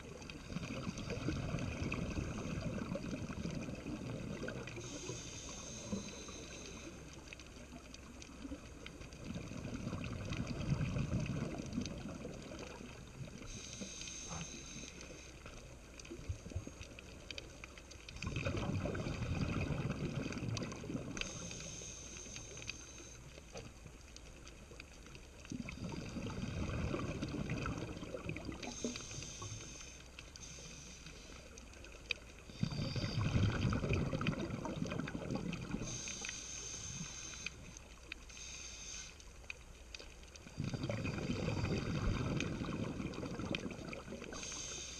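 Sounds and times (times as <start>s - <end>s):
faint clicks and crackle: 0.0s - 44.9s
muffled underwater rushing: 0.0s - 44.9s.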